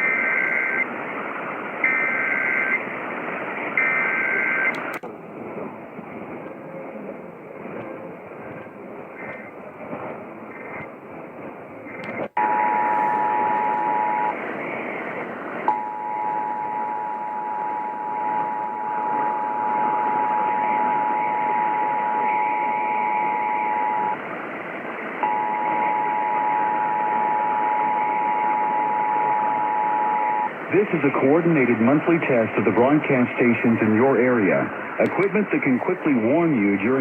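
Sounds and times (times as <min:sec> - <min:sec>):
radio hiss: 0:00.0 - 0:37.0.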